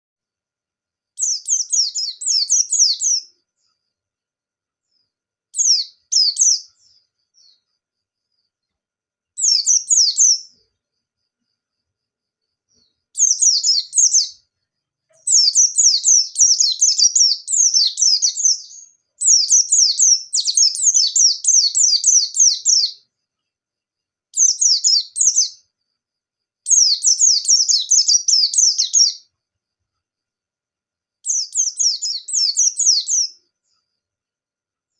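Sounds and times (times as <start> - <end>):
bird twittering song: 1.1 - 4.0, 4.8 - 29.5, 31.2 - 34.0.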